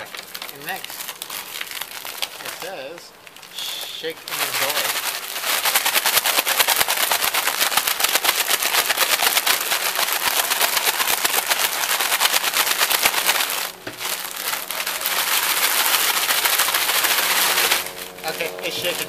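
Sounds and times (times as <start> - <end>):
noodle pieces rattling in bag: 0.0 - 19.0
packaging crinkling: 0.0 - 19.0.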